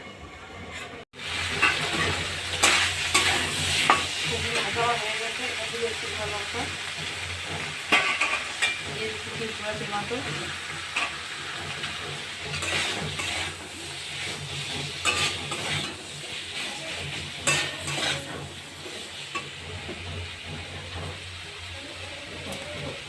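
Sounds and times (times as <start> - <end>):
spatula scraping a pan: 0.6 - 23.0
vegetables sizzling in a frying pan: 1.2 - 23.0.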